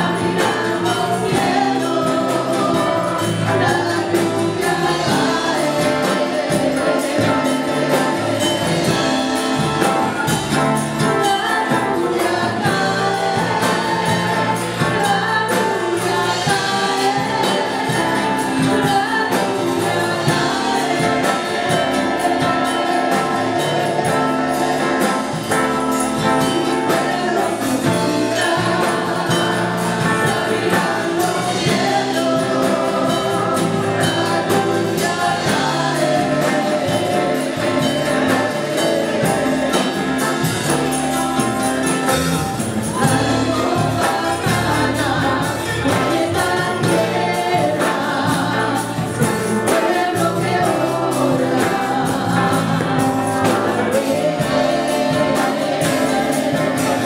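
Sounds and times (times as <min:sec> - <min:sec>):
electric guitar: 0:00.0 - 0:57.0
strummed acoustic guitar: 0:00.0 - 0:57.0
women singing together: 0:00.0 - 0:57.0.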